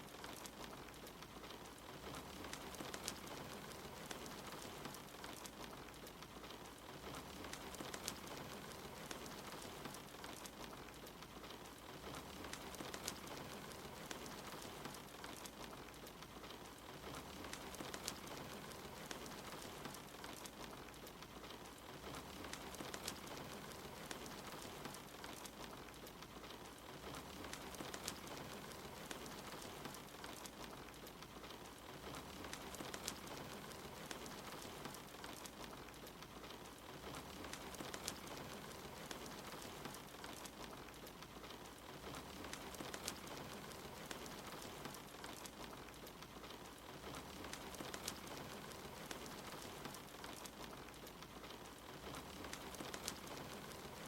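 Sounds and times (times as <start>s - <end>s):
soft rain: 0.0s - 54.0s
wood fire crackling: 0.0s - 54.0s.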